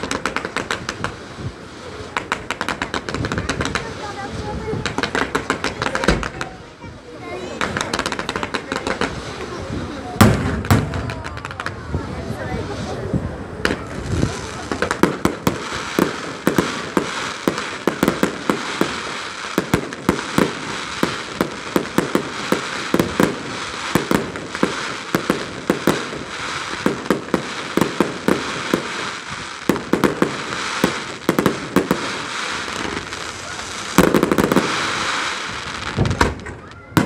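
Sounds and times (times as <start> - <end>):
fireworks bangs and pops: 0.0 - 37.0
fireworks crackling hiss: 0.0 - 37.0.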